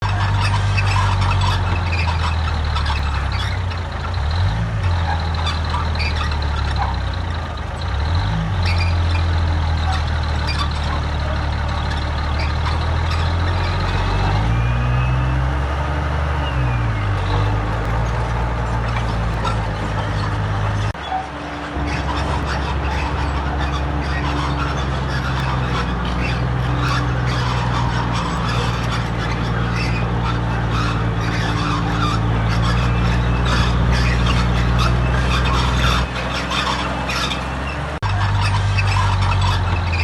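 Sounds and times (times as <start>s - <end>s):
diesel machinery engine running: 0.0s - 40.0s.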